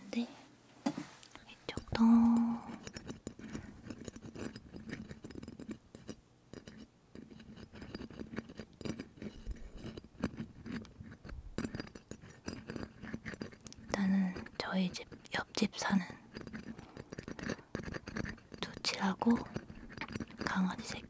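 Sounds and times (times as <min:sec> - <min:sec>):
clicks and scratching on microphone: 0:02.8 - 0:21.0.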